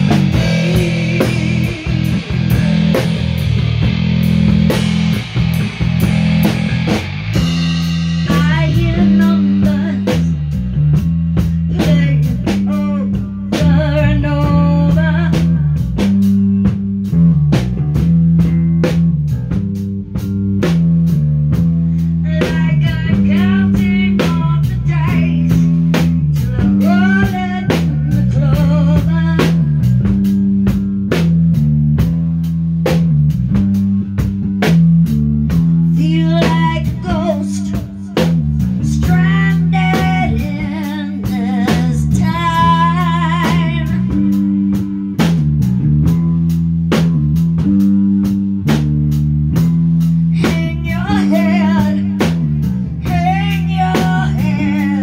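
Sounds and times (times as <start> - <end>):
electric guitar: 0.0 - 32.2, 32.8 - 55.0
drum kit beat: 0.0 - 55.0
electric bass line: 0.0 - 55.0.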